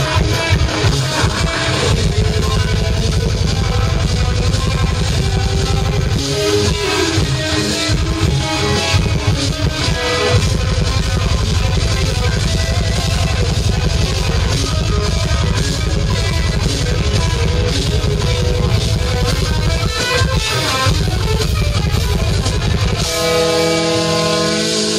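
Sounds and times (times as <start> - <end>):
death metal band playing live: 0.0 - 24.9
distorted electric guitars: 0.0 - 24.9
drum kit: 0.0 - 24.9.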